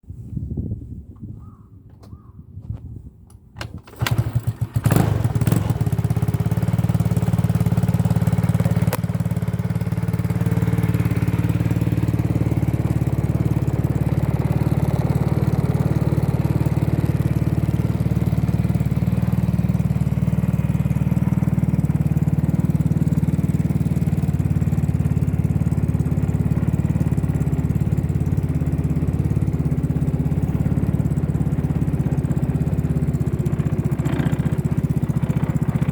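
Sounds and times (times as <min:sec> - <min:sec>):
scooter engine starting and idling: 0:03.3 - 0:35.9.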